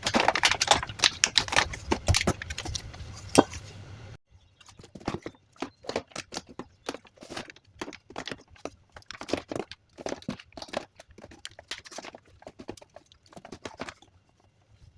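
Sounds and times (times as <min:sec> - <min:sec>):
plastic bottles clacking on shelves: 0:00.0 - 0:03.6, 0:04.8 - 0:14.1.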